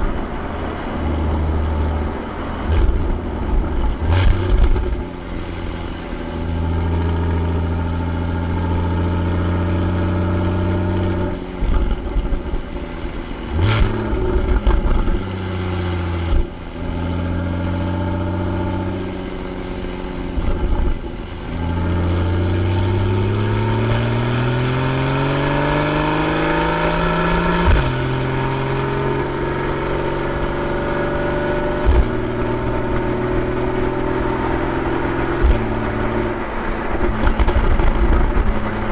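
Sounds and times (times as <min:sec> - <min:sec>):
car engine exhaust: 0:00.0 - 0:38.9
exhaust pops: 0:00.0 - 0:38.9.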